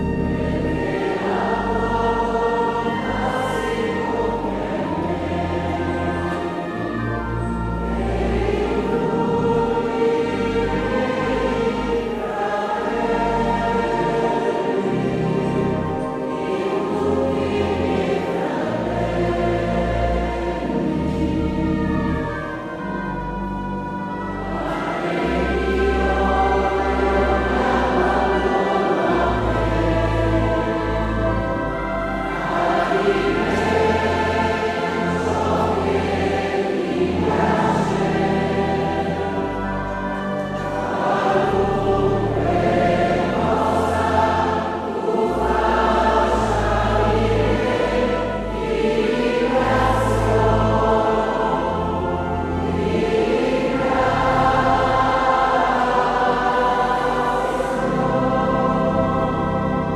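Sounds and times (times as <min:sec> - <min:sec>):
choir singing a hymn: 0:00.0 - 0:59.9
organ accompaniment: 0:00.0 - 0:59.9.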